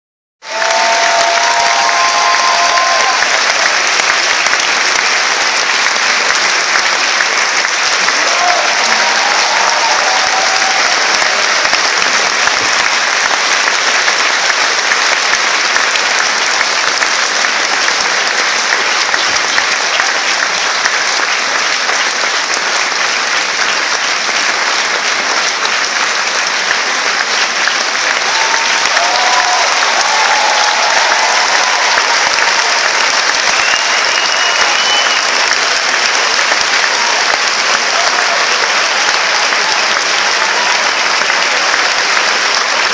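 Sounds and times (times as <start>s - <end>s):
audience applause: 0.4s - 42.9s.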